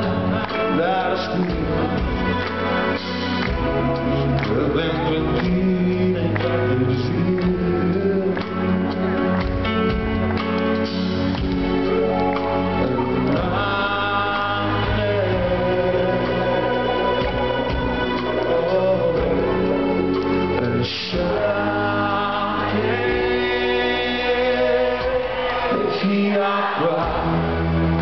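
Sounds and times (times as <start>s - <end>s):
man singing lead vocal: 0.0s - 10.0s, 10.7s - 28.0s
live band with drums: 0.0s - 28.0s.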